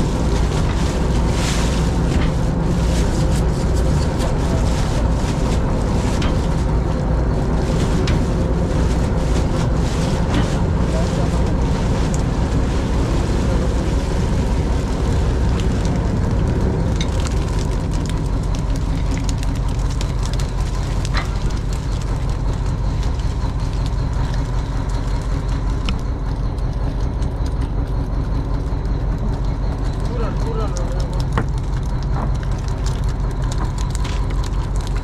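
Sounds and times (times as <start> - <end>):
boat engine droning: 0.0 - 35.0.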